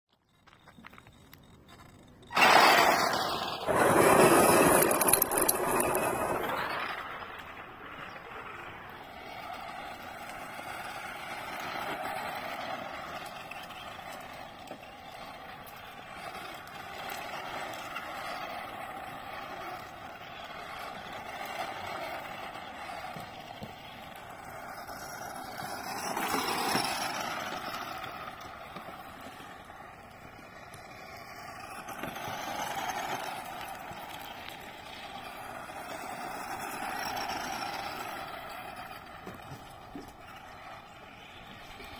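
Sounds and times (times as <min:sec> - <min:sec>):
tyres on loose stones: 0:00.1 - 0:41.9
toy car motor whining: 0:00.3 - 0:41.9.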